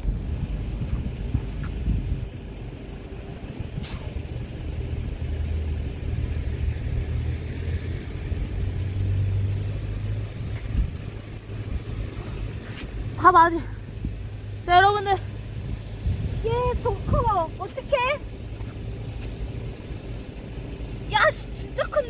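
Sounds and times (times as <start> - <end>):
motor vehicle passing: 0.0 - 22.0.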